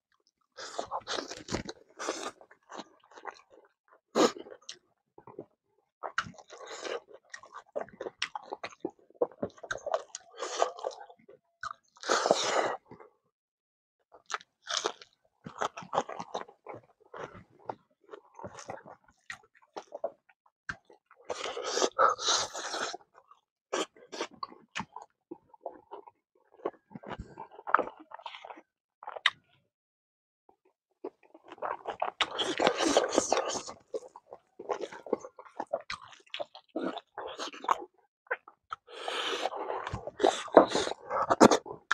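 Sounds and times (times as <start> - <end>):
person chewing food: 0.6 - 12.6, 14.2 - 29.4, 31.0 - 41.9.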